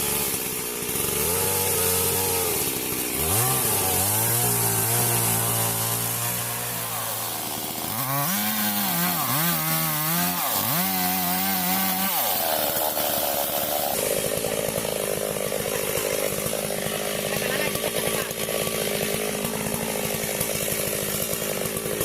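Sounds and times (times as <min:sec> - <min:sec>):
chainsaw cutting wood: 0:00.0 - 0:22.0
chainsaw revving: 0:00.0 - 0:22.0.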